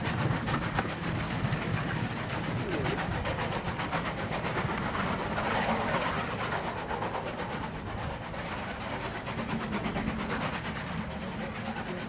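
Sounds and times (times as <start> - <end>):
steam locomotive exhaust beats: 0.0 - 12.0.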